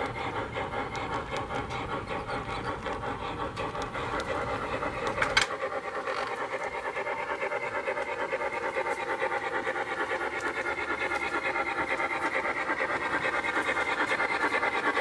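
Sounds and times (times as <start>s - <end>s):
model steam locomotive chuffing: 0.0s - 15.0s
train cars rumbling on track: 0.0s - 15.0s.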